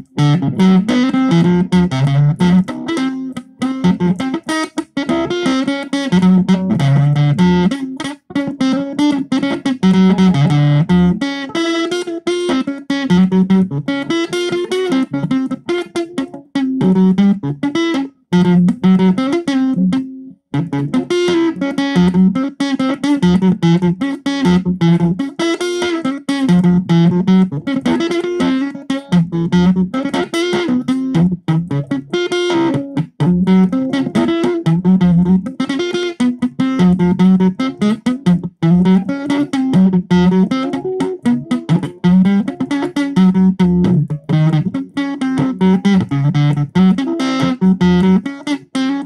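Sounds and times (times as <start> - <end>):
distorted electric guitar riff: 0.0 - 49.0.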